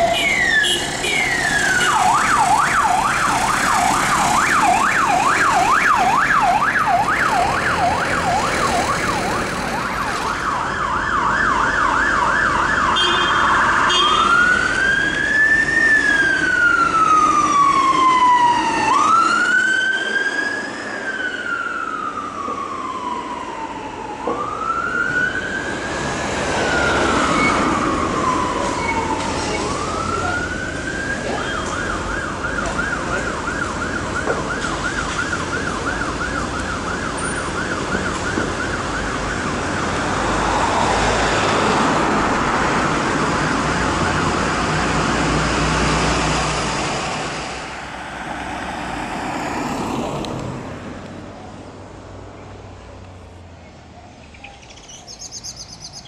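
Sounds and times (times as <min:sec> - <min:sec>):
fire engine siren: 0:00.0 - 0:51.2.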